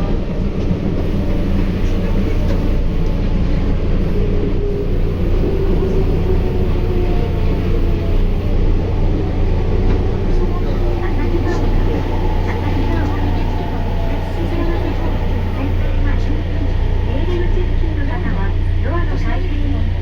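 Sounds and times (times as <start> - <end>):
train wheels rumbling on rail: 0.0 - 20.0
faint steady tones: 0.8 - 20.0.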